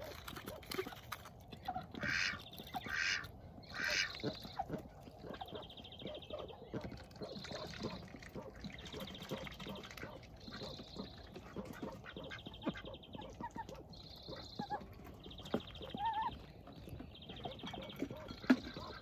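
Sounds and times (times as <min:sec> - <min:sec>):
ducks pecking and dabbling: 0:00.0 - 0:19.0.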